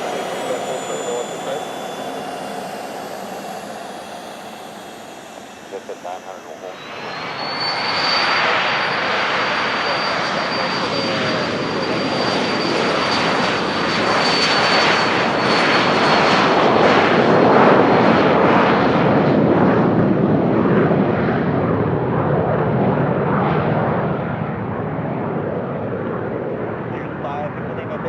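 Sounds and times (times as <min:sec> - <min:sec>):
jet passing with turbine whine: 0:00.0 - 0:28.0.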